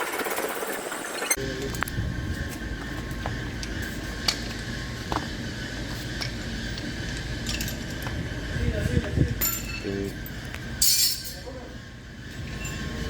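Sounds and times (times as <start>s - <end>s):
machine hum: 0.0s - 13.0s
thin steady whine: 0.0s - 13.0s.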